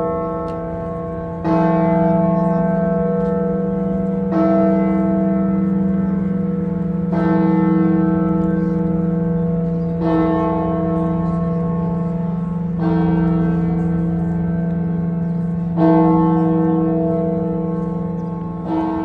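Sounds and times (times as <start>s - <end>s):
church bell ringing: 0.0s - 19.0s.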